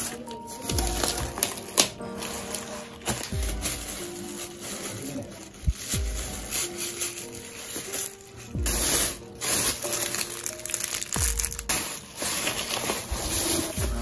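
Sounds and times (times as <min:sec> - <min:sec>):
plastic bag rustling: 0:00.0 - 0:14.0
soft music with deep beat: 0:00.0 - 0:14.0.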